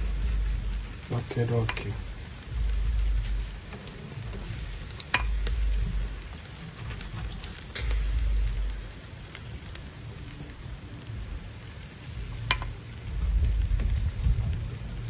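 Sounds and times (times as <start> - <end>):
meat sizzling on a grill: 0.0 - 15.0
small crackles: 0.0 - 15.0
wind rumble on microphone: 0.0 - 15.0.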